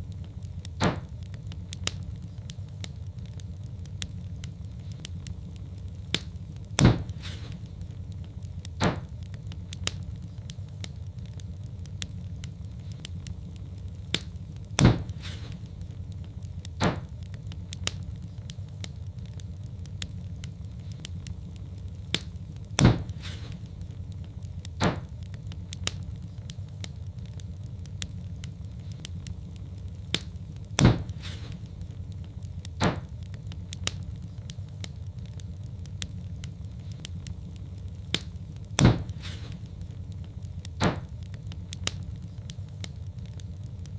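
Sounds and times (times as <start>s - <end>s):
fire popping: 0.0s - 43.9s
log fire crackling: 0.0s - 43.9s
low steady rumble: 0.0s - 43.9s.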